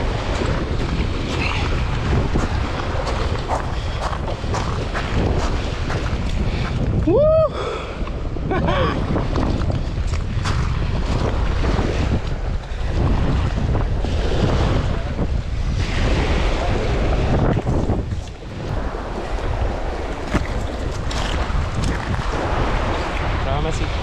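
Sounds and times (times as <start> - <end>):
sea water lapping: 0.0 - 24.0
wind buffeting microphone: 0.0 - 24.0.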